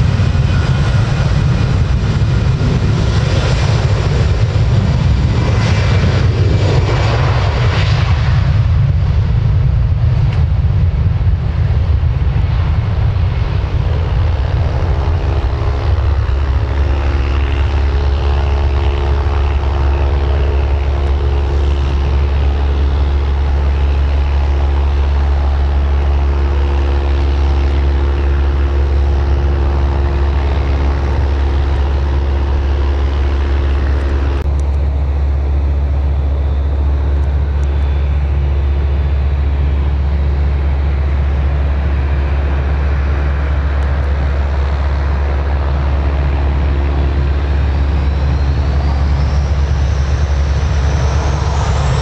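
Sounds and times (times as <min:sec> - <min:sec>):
heavy low rumble: 0:00.0 - 0:52.0
jet engines at take-off power: 0:00.0 - 0:52.0.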